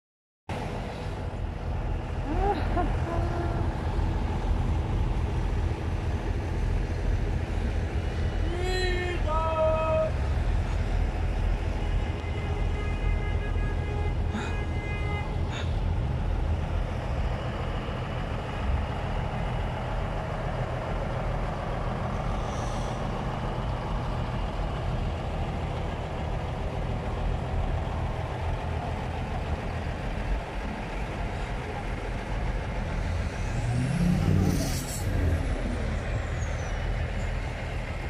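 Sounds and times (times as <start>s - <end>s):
diesel truck engines idling: 0.5s - 38.0s.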